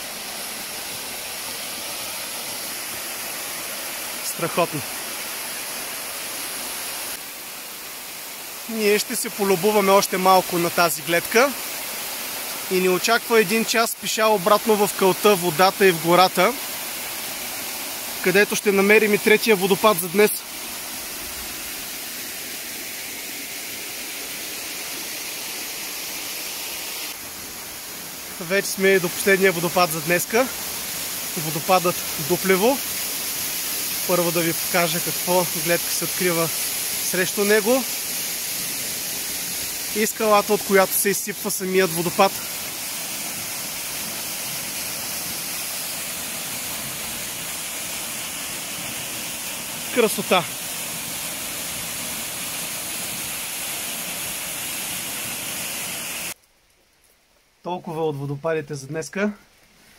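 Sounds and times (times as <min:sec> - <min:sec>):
waterfall rushing over rocks: 0:00.0 - 0:56.4.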